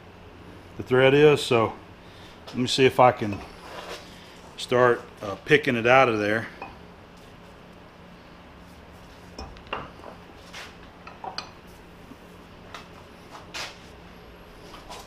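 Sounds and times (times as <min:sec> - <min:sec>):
low shop hum: 0:00.0 - 0:15.0.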